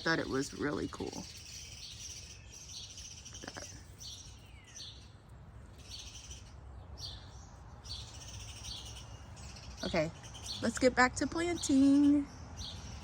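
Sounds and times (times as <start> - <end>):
bird chirp: 0.0 - 13.0
birds singing buzzy trills: 0.0 - 13.0.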